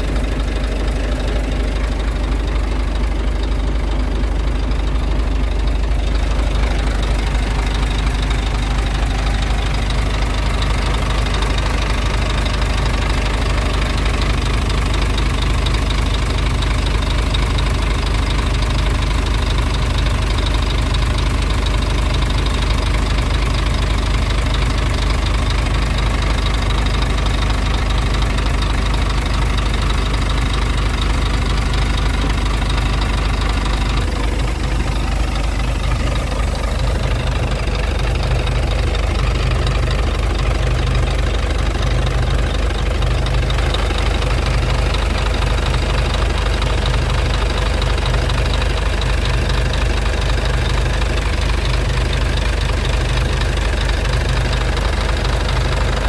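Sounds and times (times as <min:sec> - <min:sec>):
truck diesel engine idling: 0:00.0 - 0:56.0.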